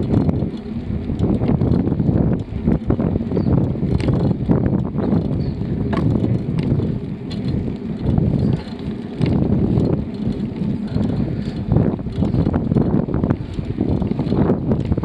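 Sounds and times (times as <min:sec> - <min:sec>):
bicycle tyres rumbling on path: 0:00.0 - 0:15.0
small clicks and rattles: 0:00.0 - 0:15.0
wind buffeting microphone: 0:00.0 - 0:15.0.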